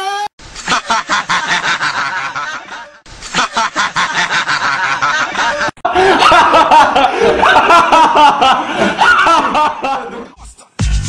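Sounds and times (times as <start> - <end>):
person laughing loudly: 0.6 - 10.3.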